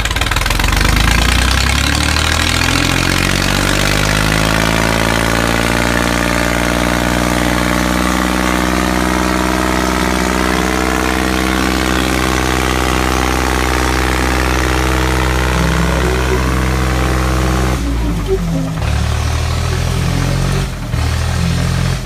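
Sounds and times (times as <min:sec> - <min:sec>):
diesel tractor engines droning: 0:00.0 - 0:22.0.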